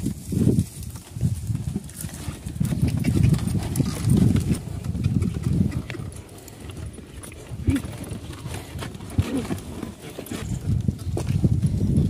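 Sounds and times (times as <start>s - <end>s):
cart wheels rumbling: 0.0s - 12.0s
donkey hoofbeats: 0.0s - 12.0s.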